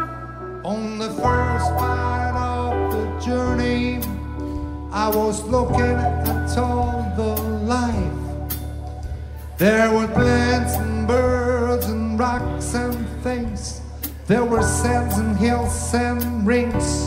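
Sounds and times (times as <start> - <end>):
drum kit: 0.0 - 17.0
keyboard bass: 0.0 - 17.0.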